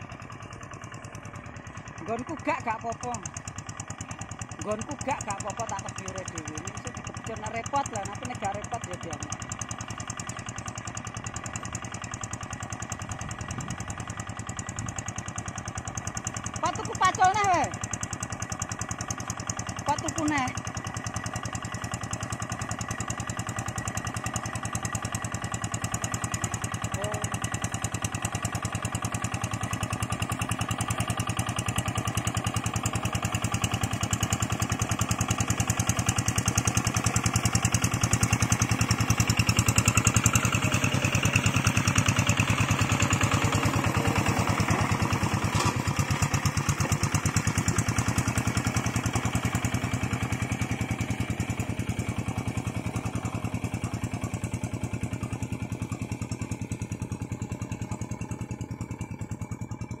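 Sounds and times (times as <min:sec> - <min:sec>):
diesel tractor engine under load: 0:00.0 - 1:00.0.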